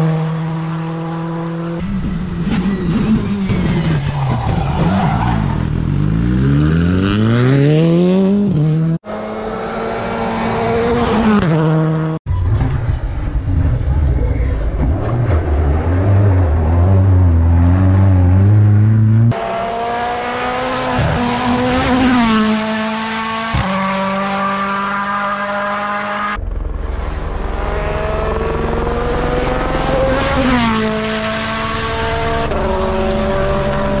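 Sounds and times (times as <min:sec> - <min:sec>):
rally car engines accelerating: 0:00.0 - 0:34.0.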